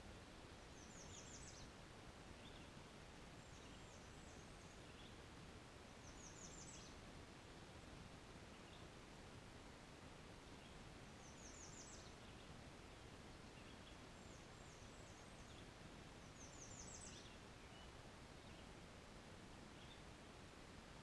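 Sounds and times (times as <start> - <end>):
faint bird song: 0.0 - 21.0
low background noise: 0.0 - 21.0.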